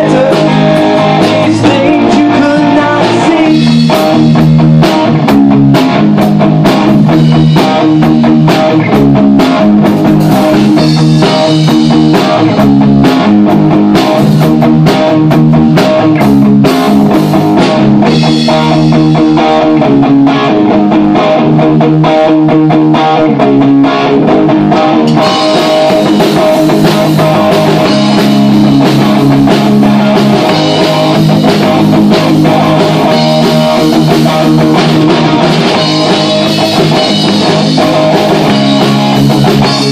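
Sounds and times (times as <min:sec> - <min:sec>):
rock band playing loudly: 0:00.0 - 0:39.9.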